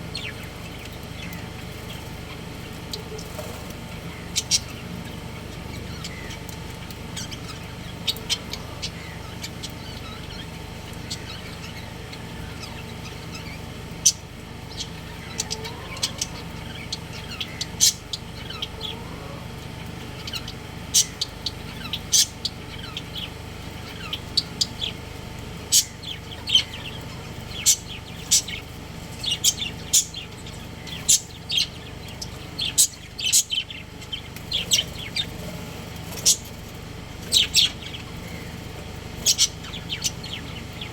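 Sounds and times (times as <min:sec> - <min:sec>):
steady low hum: 0:00.0 - 0:40.9
budgerigars chirping: 0:02.9 - 0:04.8, 0:07.2 - 0:19.4, 0:20.0 - 0:36.6, 0:37.2 - 0:40.9.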